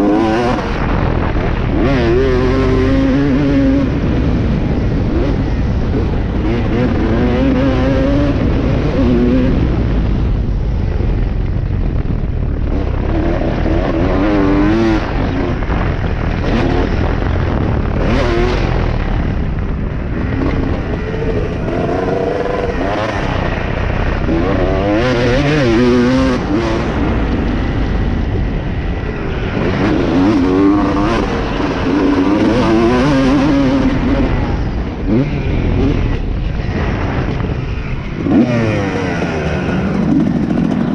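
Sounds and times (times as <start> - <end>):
dirt bike engine revving: 0.0 - 10.2, 12.6 - 40.9
wind buffeting camera: 0.0 - 40.9.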